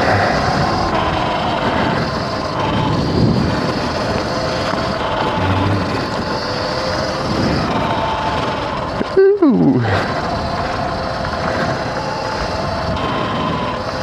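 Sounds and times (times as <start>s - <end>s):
bike rattle: 0.0s - 14.0s
dirt bike motor whine: 0.0s - 14.0s
wind: 0.0s - 14.0s.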